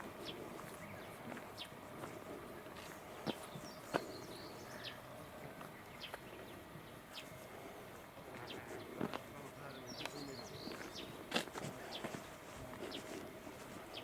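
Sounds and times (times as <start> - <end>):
small birds chirping: 0.0 - 14.0
steady background hush: 0.0 - 14.0.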